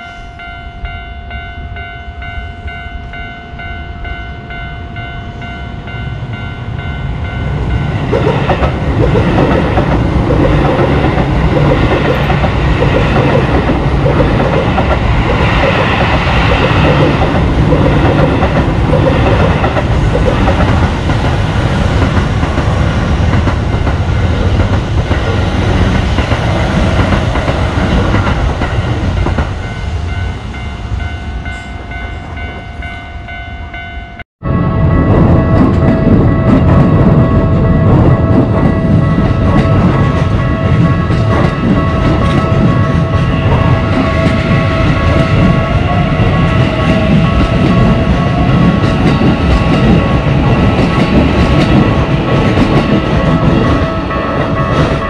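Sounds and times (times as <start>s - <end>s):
electric train passing: 0.0s - 55.0s
level-crossing warning bell: 0.0s - 55.0s.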